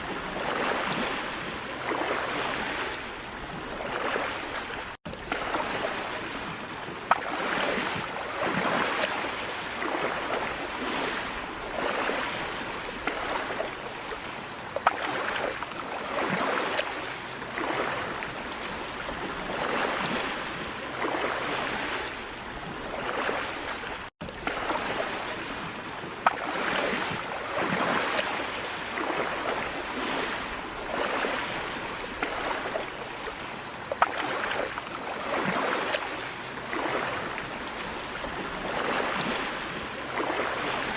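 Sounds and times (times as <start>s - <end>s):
floodwater rushing and sloshing: 0.0s - 40.9s.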